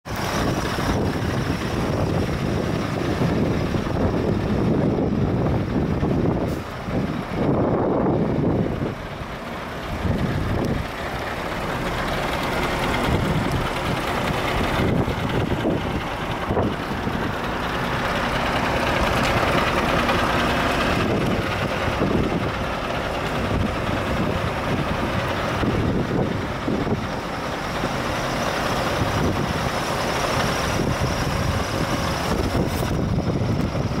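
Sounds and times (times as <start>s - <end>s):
diesel engine idling: 0.1s - 34.0s.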